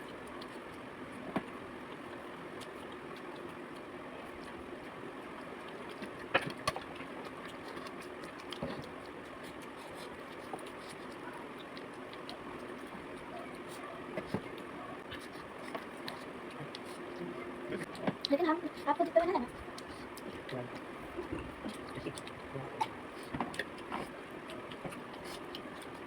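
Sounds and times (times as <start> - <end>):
eating crunches and clicks: 0.0 - 26.0
steady background hum: 0.0 - 26.0.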